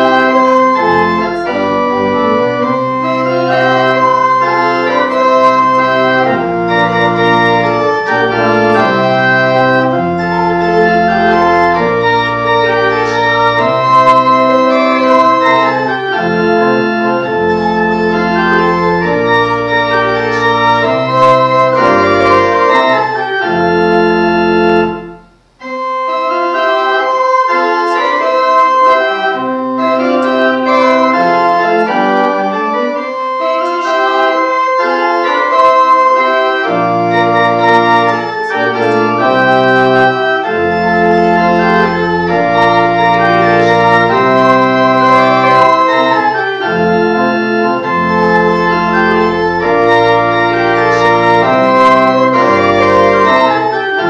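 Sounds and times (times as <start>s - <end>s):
church organ playing hymn chords: 0.0s - 54.0s.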